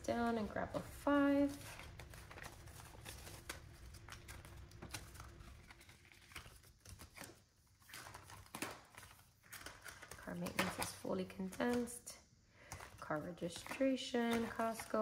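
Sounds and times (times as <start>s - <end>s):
paper bills being gathered: 0.1s - 12.0s, 12.6s - 15.0s
plastic binder pages turning: 0.1s - 12.0s, 12.7s - 15.0s.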